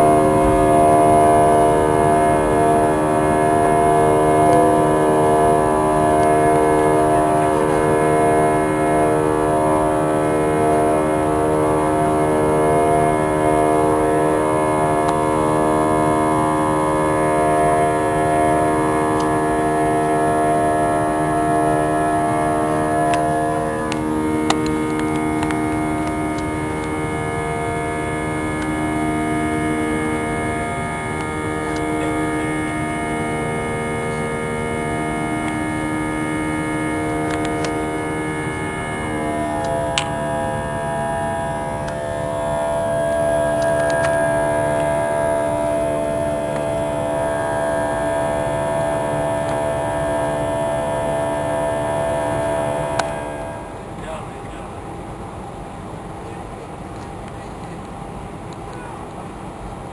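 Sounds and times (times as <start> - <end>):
jet engines droning: 0.0 - 59.9.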